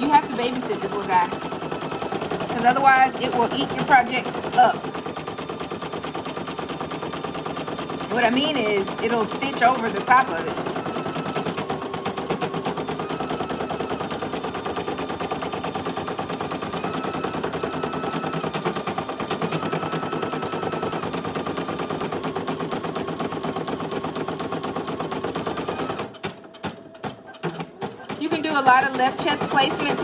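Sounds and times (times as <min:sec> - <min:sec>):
embroidery machine stitching: 0:00.0 - 0:30.0.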